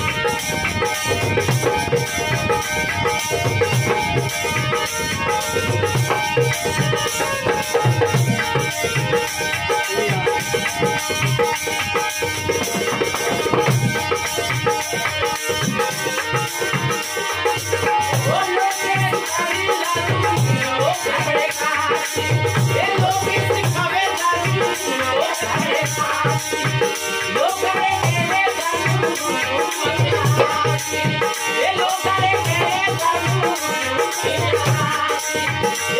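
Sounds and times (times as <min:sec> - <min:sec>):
hand drum beating: 0:00.0 - 0:35.9
harmonium: 0:00.0 - 0:35.9.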